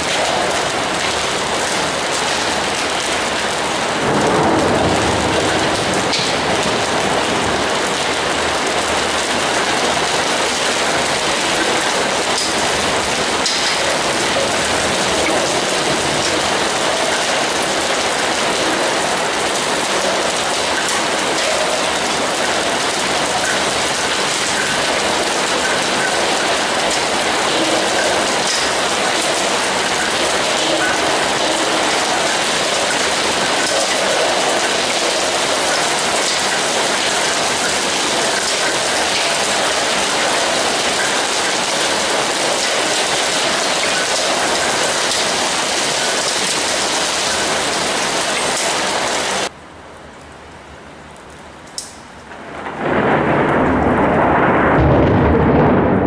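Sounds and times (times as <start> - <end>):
thunder rumble: 0.0 - 48.6, 52.2 - 56.0
heavy rain downpour: 0.0 - 56.0.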